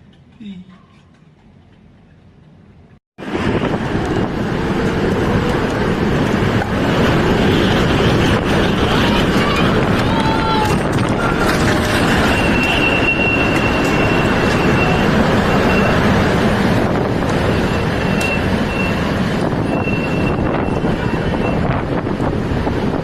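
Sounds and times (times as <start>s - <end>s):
strong wind on microphone: 3.2s - 23.0s.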